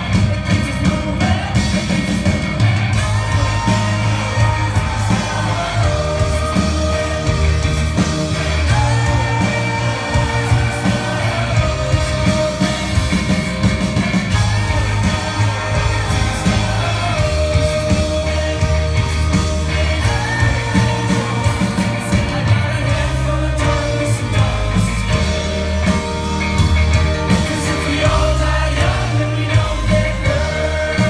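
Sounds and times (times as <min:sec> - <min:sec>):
heavy bass line: 0:00.0 - 0:31.0
live folk-rock band: 0:00.0 - 0:31.0
person singing: 0:00.0 - 0:31.0.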